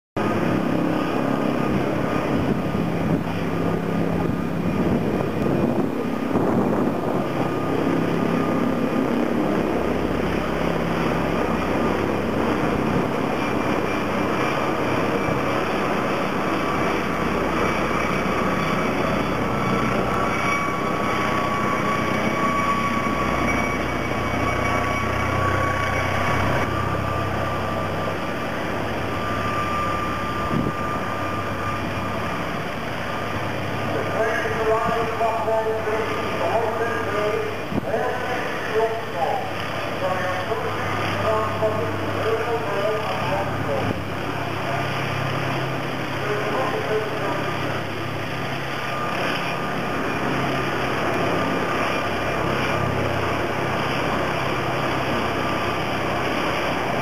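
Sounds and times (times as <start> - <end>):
helicopter rotor and turbine: 0.2 - 57.0
thin high whine: 0.2 - 57.0.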